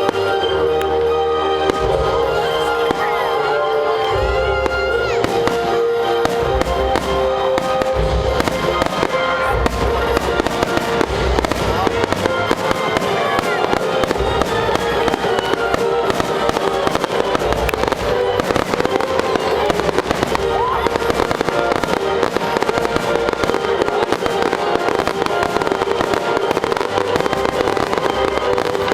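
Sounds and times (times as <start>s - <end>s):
fireworks booming and crackling: 0.0s - 28.9s
music with long held notes: 0.0s - 28.9s.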